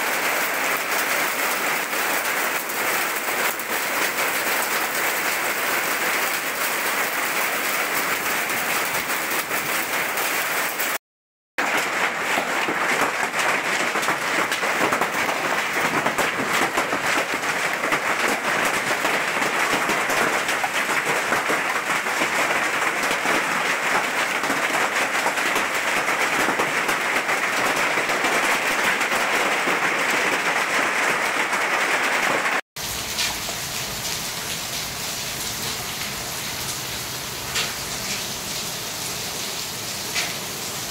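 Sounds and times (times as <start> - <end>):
heavy rain and hail: 0.0 - 11.0, 11.6 - 40.9.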